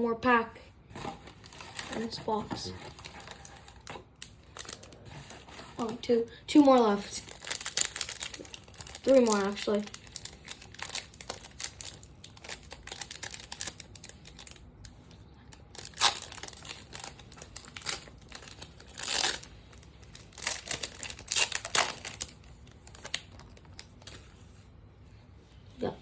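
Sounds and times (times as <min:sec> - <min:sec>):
foil wrapper crinkling and tearing: 0:02.9 - 0:24.3.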